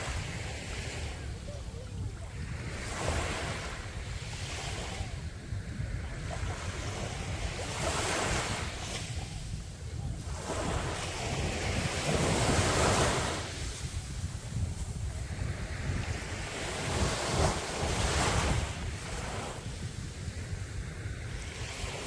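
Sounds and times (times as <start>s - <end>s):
sea waves breaking on beach: 0.0s - 22.0s
wind buffeting microphone: 0.0s - 22.0s.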